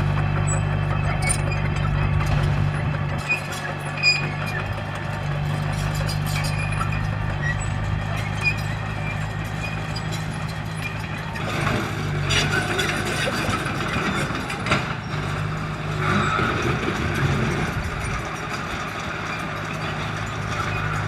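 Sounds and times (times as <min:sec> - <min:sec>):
diesel bulldozer engine drone: 0:00.0 - 0:21.0
metal clanking and scraping: 0:00.0 - 0:21.0.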